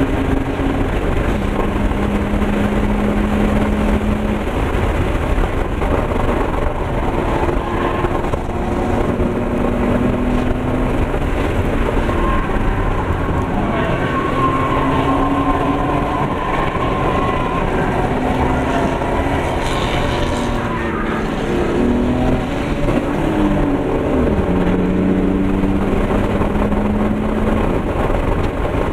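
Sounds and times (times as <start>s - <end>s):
car engine running hard: 0.0s - 28.9s
road and wind noise: 0.0s - 28.9s.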